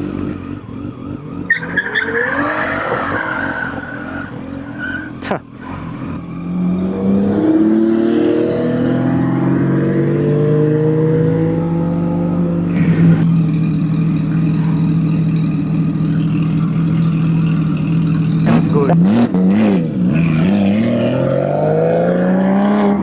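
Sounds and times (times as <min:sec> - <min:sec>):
motorcycle engine pulling away: 0:00.0 - 0:23.0.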